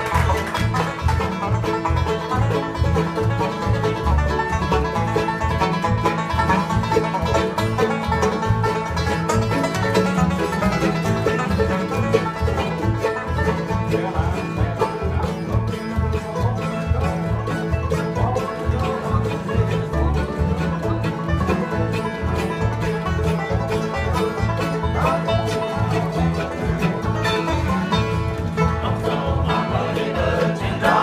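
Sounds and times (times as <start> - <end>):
acoustic bluegrass band playing: 0.0 - 31.0
banjo: 0.0 - 31.0
fiddle: 0.0 - 31.0.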